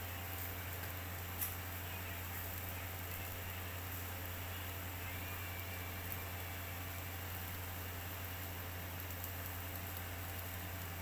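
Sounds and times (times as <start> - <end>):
faint crackle: 0.0 - 11.0
low steady hum: 0.0 - 11.0
meat sizzling on charcoal grill: 0.0 - 11.0.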